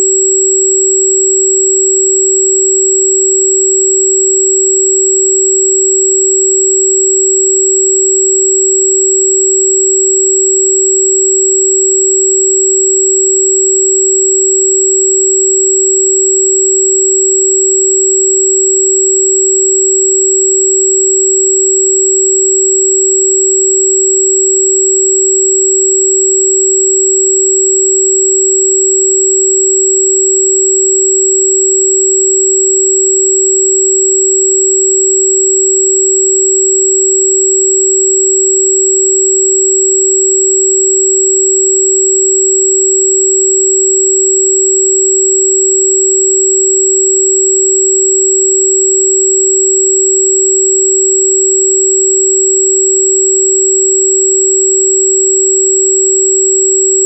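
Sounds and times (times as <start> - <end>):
steady electronic sine tone: 0.0 - 57.0.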